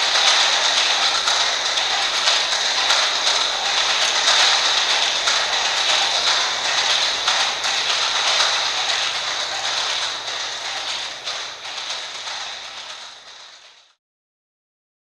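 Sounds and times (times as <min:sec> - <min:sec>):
clocks ticking: 0:00.0 - 0:13.7.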